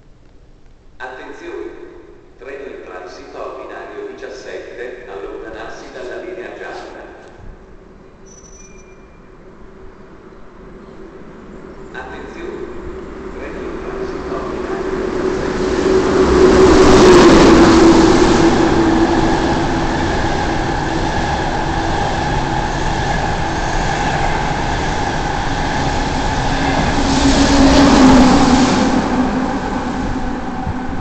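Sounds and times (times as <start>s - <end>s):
train rumbling past: 4.4s - 31.0s.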